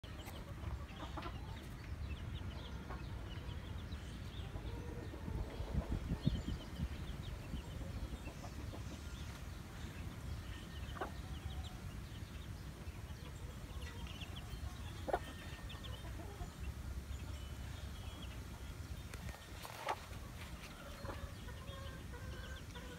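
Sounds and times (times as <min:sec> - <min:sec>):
chicks peeping: 0:00.0 - 0:22.9
hen clucking: 0:00.0 - 0:22.9.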